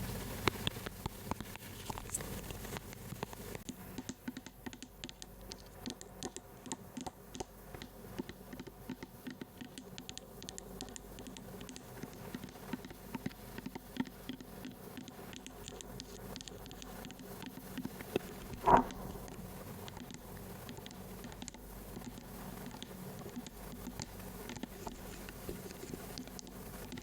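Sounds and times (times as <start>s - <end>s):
tapping and scratching on object: 0.6s - 27.0s.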